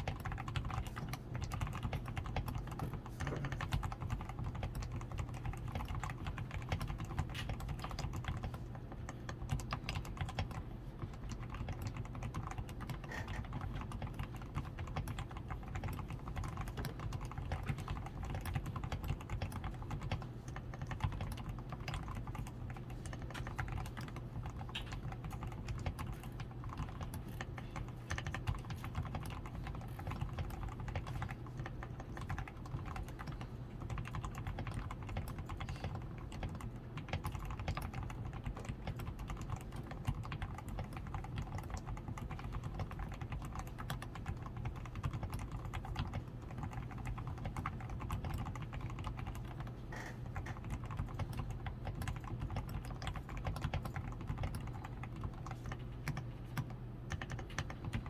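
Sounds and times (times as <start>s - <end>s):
typing on mechanical keyboard: 0.0s - 58.0s.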